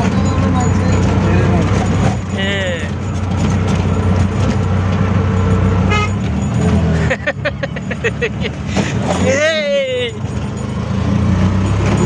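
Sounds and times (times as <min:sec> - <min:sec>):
auto-rickshaw engine running: 0:00.0 - 0:12.0.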